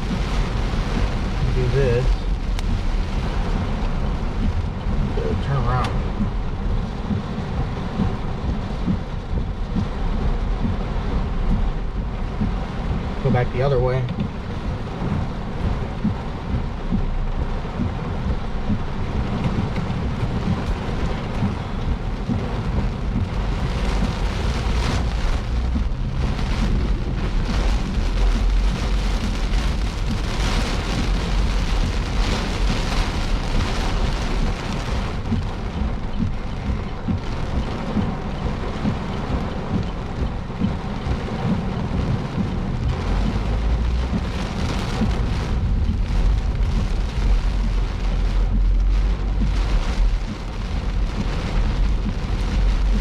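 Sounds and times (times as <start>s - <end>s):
heavy rain on a car: 0.0s - 53.0s
low rumble: 0.0s - 53.0s.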